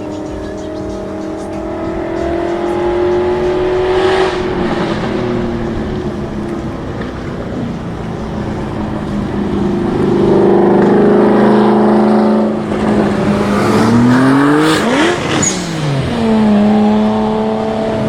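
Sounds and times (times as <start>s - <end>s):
car revving and accelerating past: 0.0s - 18.0s
sports car engines running: 0.0s - 18.0s.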